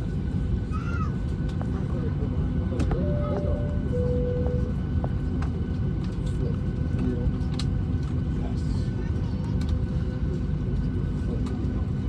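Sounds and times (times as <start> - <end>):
aircraft cabin low rumble: 0.0 - 12.0.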